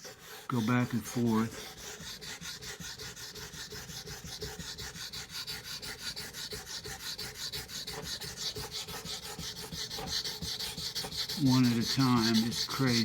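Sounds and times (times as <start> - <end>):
knife scraping on whetstone: 0.0 - 13.0.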